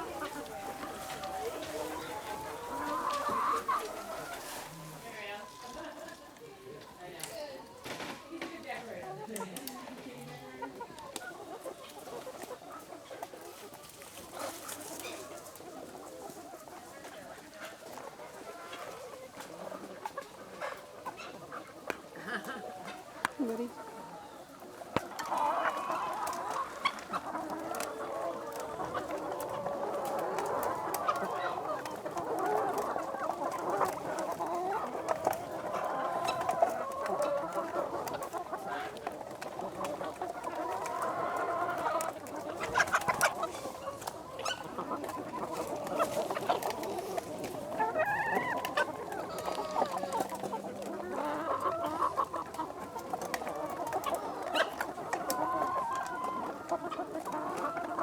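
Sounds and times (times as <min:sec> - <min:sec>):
hens clucking: 0:00.0 - 0:58.0.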